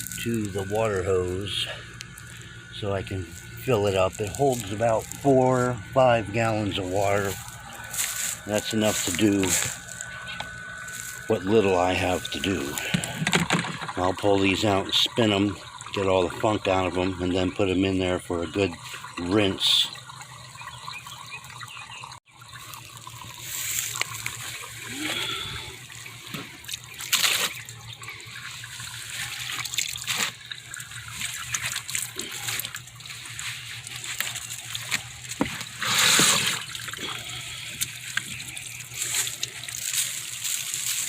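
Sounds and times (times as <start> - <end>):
water trickling and splashing: 0.0 - 41.0.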